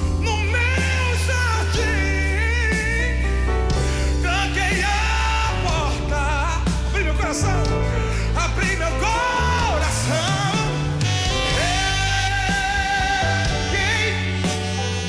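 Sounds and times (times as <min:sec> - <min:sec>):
gospel band music: 0:00.0 - 0:15.0
person singing: 0:00.0 - 0:15.0.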